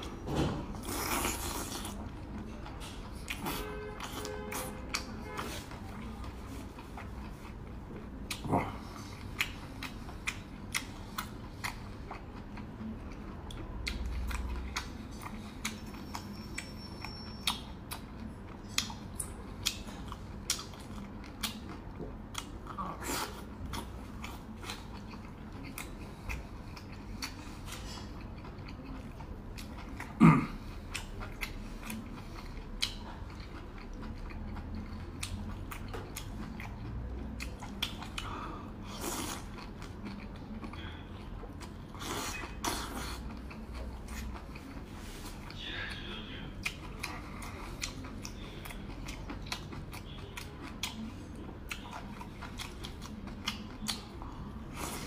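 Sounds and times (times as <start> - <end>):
close-up chewing: 0.0 - 55.0.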